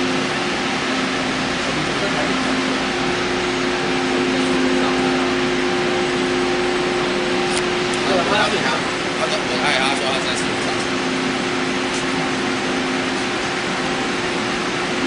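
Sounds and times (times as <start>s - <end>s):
train mechanical hum: 0.0s - 15.0s.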